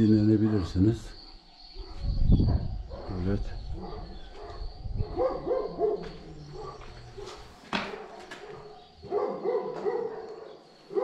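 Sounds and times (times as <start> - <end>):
dog barking: 0.4 - 0.8, 1.8 - 11.0.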